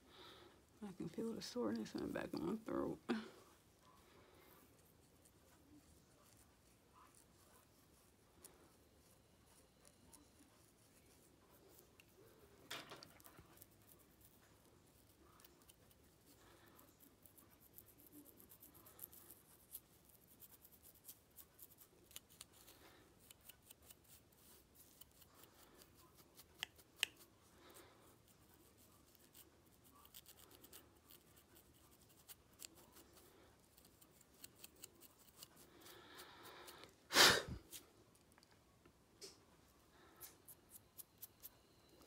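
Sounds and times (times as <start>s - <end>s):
comb scraping scalp: 0.8s - 37.9s, 40.0s - 42.0s.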